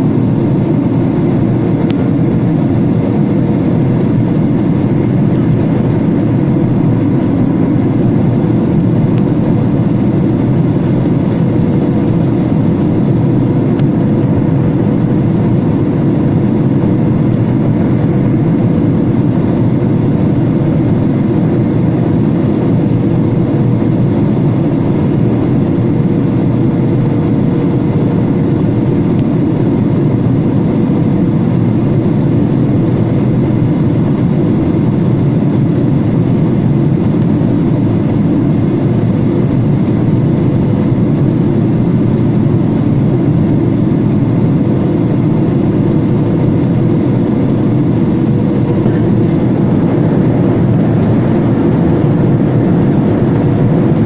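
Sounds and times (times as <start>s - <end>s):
airflow past fuselage: 0.0s - 54.0s
jet engines in flight: 0.0s - 54.0s
steady cabin hum: 0.0s - 54.0s.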